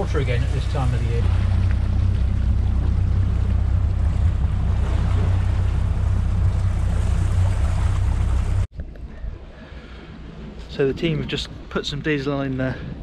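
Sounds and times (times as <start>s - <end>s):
wind on microphone: 0.0s - 11.8s
boat engine rumbling: 0.0s - 13.0s
water noise: 0.0s - 13.0s.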